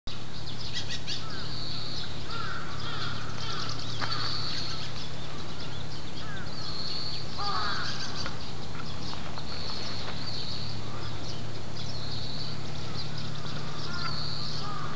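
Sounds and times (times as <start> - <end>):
songbirds chirping and trilling: 0.1 - 14.9
crows cawing: 0.9 - 8.4, 9.6 - 11.5, 12.1 - 14.9.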